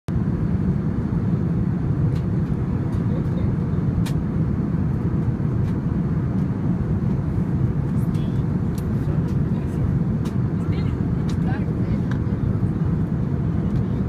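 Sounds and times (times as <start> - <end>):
vehicle rumble from inside cabin: 0.2 - 14.0.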